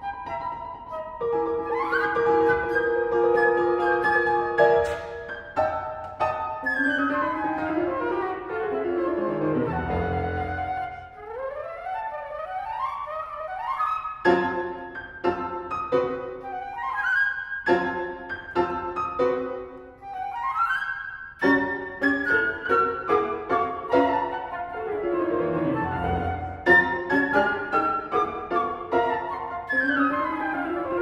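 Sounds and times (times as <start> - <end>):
flute: 0.0 - 31.0
piano: 0.0 - 31.0.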